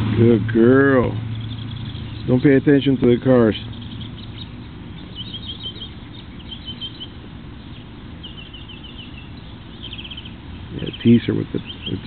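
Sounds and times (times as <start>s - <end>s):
low outdoor rumble: 0.0s - 12.0s
small bird chirping: 1.1s - 12.0s.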